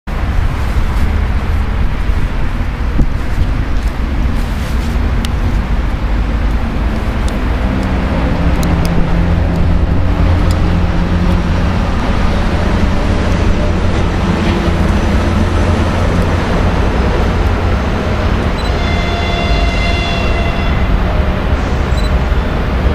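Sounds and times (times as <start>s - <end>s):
distant train rumble: 0.1s - 22.9s.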